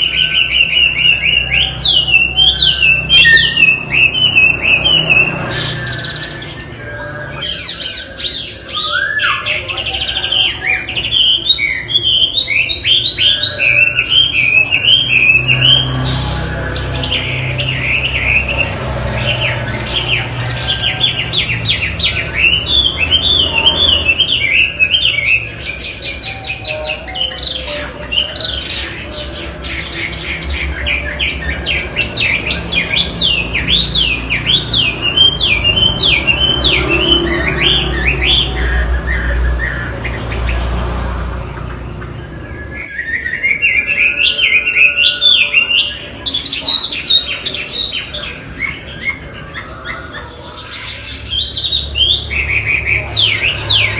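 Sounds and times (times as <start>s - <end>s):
bird singing whistled notes: 0.0s - 40.6s, 41.9s - 53.9s.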